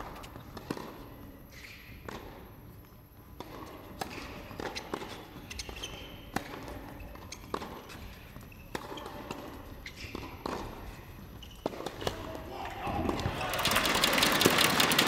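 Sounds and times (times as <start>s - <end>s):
tennis balls bouncing and struck: 0.0s - 13.4s.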